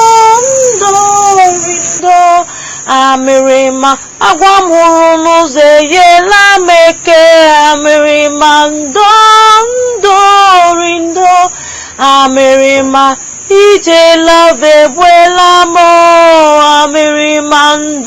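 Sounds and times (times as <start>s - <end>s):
faint steady high tone: 0.0s - 18.0s
high voice singing wordless melody: 0.0s - 18.0s.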